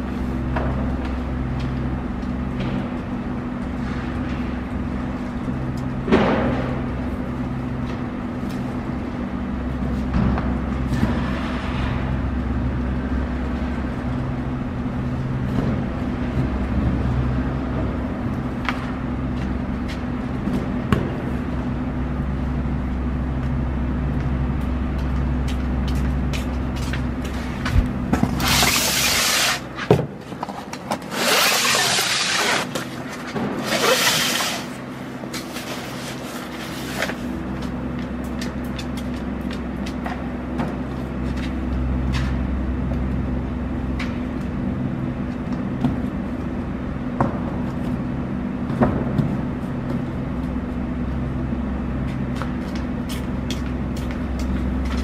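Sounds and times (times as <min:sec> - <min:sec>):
low machinery hum: 0:00.0 - 0:55.0.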